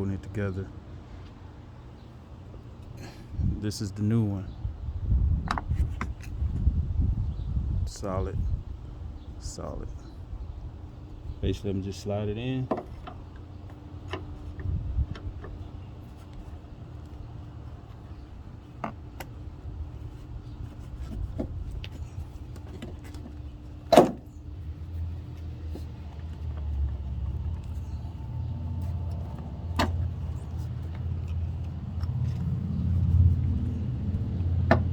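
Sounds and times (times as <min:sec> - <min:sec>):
low background rumble: 0:00.0 - 0:34.9.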